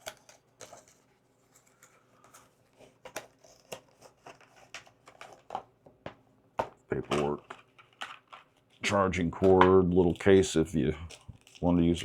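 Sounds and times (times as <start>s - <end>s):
packaging rustling and crinkling: 0.0s - 5.7s, 7.0s - 12.0s.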